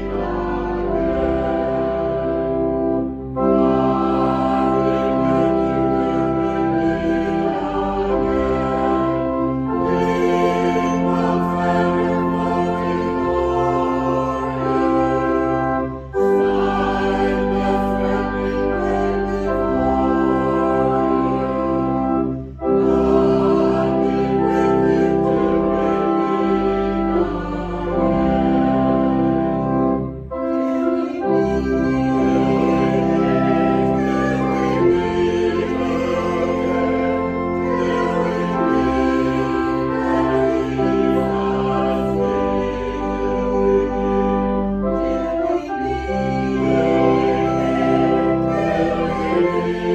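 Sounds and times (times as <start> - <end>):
organ playing sustained chords: 0.0 - 49.9.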